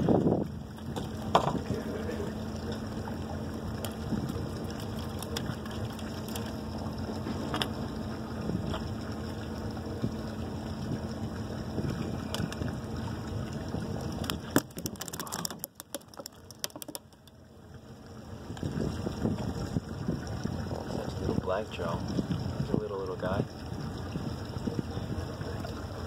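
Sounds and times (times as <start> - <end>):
water noise: 0.0 - 26.0
wind: 0.0 - 26.0.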